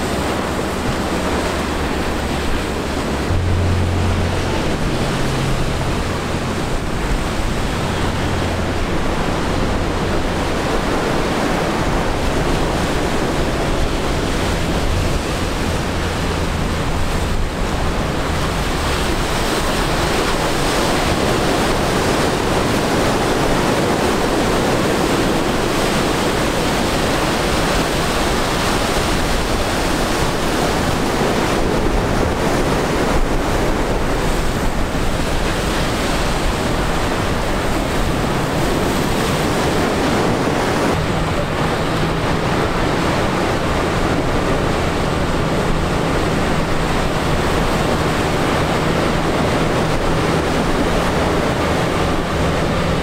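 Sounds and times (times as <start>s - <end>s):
boat diesel engine drone: 0.0s - 53.0s
surf breaking on rocks: 0.0s - 53.0s
wind buffeting microphone: 0.0s - 53.0s.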